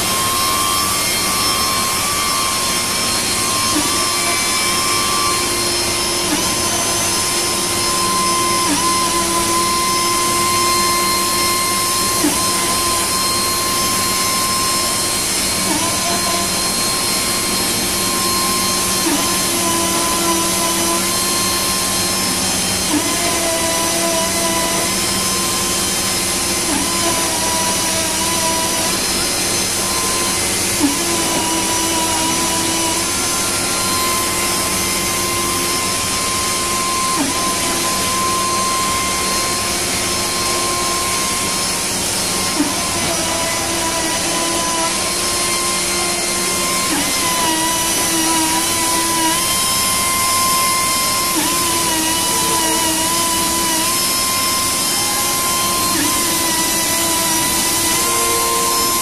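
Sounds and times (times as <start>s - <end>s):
router spindle whining: 0.0s - 59.0s.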